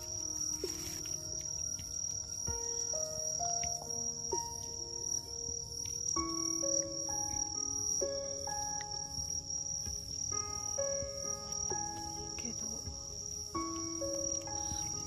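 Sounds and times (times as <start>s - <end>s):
crickets trilling: 0.0s - 15.0s
soft background music: 0.0s - 15.0s.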